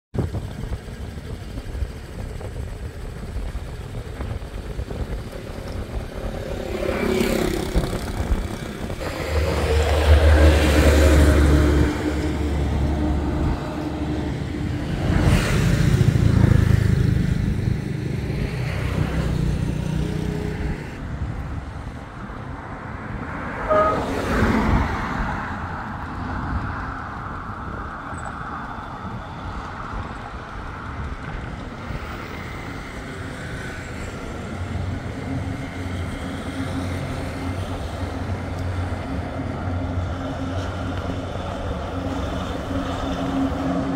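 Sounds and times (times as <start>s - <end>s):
road traffic passing: 0.2s - 43.9s.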